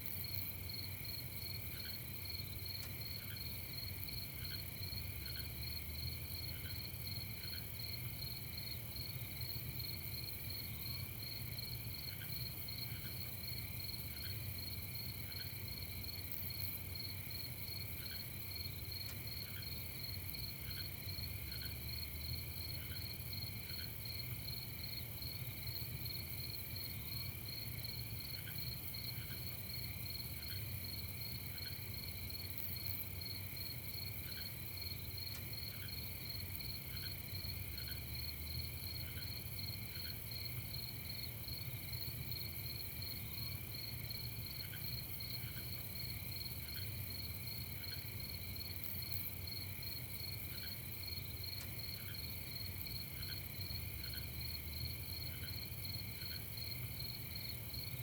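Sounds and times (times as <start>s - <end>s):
crickets trilling: 0.2s - 58.0s.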